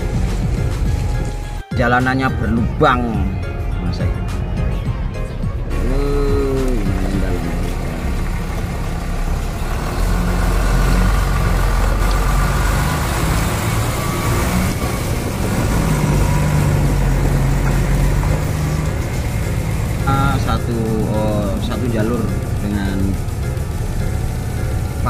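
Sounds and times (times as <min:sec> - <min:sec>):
truck diesel engine running: 0:00.0 - 0:01.6, 0:02.3 - 0:25.0.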